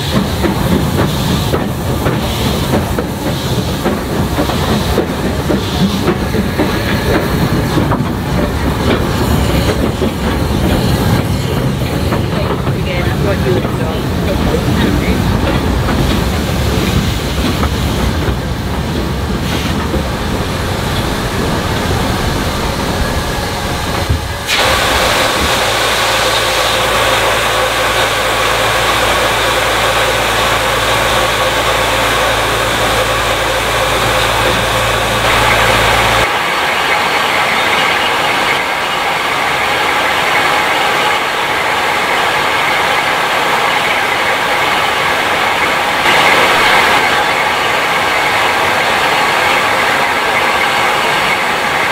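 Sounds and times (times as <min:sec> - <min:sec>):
steam hiss: 0:00.0 - 0:18.4, 0:19.3 - 0:51.9
steam train rumbling and clattering: 0:00.0 - 0:51.9.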